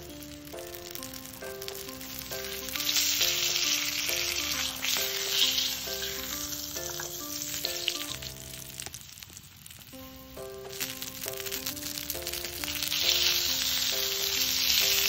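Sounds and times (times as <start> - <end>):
light background music: 0.0 - 8.9, 10.0 - 15.0
tofu sizzling in hot oil: 0.0 - 15.0.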